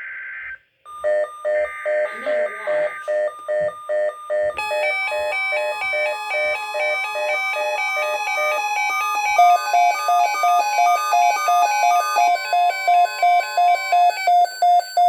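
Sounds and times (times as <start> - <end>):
electronic beeping alert tone: 0.9 - 15.0.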